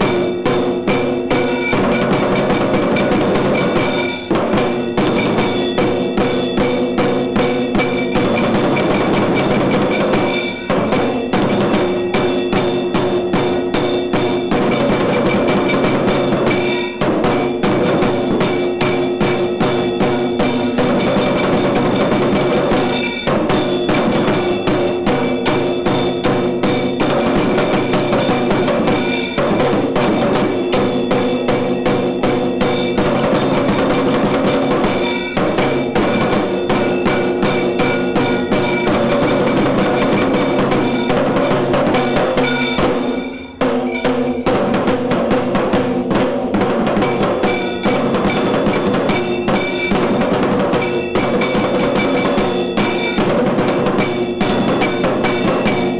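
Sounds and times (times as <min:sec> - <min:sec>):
fast drumming: 0:00.0 - 0:55.9.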